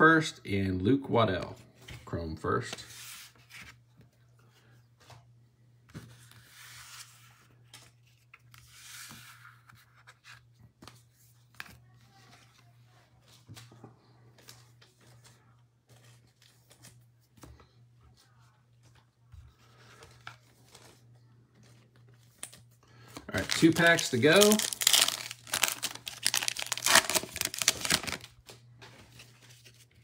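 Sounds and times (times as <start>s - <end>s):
rustling and scraping of cards: 1.4s - 5.3s, 5.9s - 30.0s.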